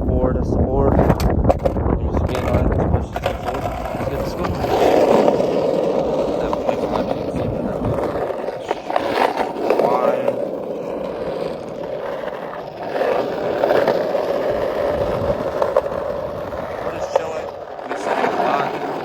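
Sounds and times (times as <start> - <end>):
skateboard wheels rolling on pavement: 0.9 - 19.0.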